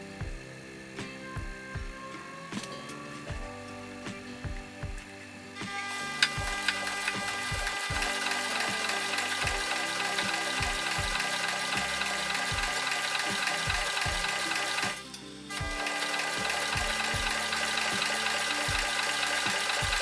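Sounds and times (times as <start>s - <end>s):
machine whirring: 0.0s - 20.0s.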